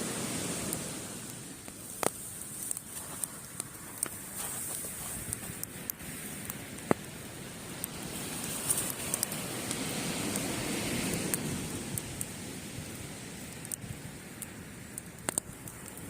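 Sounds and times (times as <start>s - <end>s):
campfire crackling and popping: 0.0s - 16.0s
sea waves on a beach: 0.0s - 16.0s.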